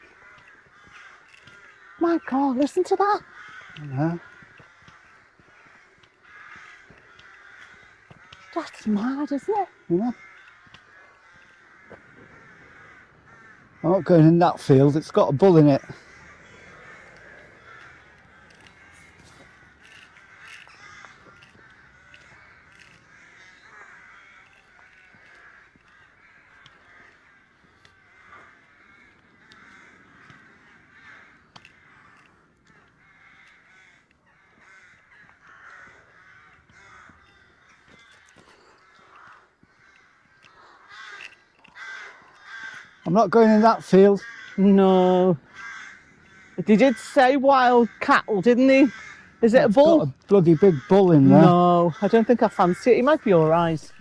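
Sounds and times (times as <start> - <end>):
crows cawing: 0.0 - 54.0.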